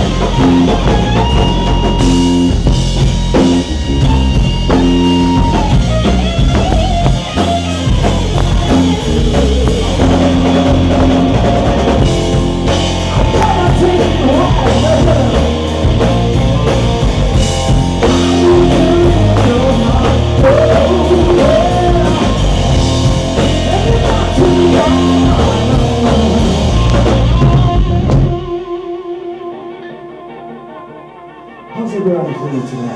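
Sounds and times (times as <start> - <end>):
bending guitar lead line: 0.0 - 32.9
rock band playing: 0.0 - 32.9.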